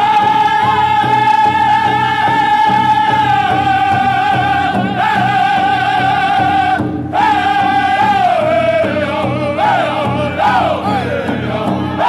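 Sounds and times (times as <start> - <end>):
bass drum beat: 0.0 - 12.0
men singing in unison: 0.0 - 12.0.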